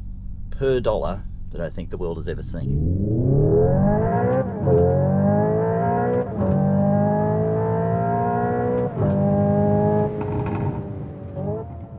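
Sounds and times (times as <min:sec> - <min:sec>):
synthetic engine sound accelerating: 0:00.8 - 0:11.9.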